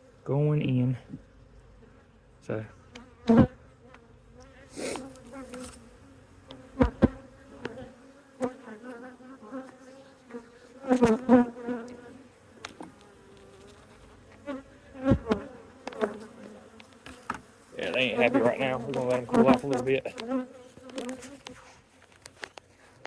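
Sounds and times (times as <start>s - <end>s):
honey bees buzzing: 0.0s - 22.2s.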